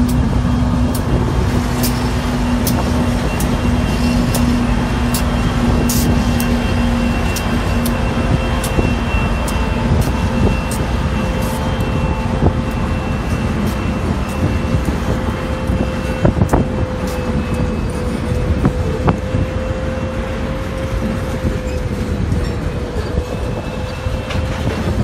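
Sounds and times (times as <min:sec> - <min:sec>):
diesel locomotive engine hum: 0:00.0 - 0:25.0.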